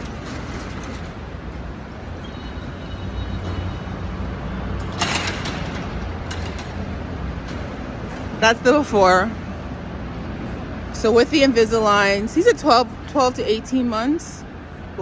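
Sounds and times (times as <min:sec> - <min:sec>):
passing vehicles rumble: 0:00.0 - 0:15.0.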